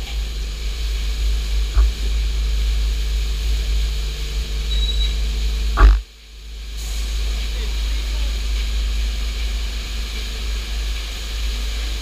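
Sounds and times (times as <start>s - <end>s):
deep rumble: 0.0s - 12.0s.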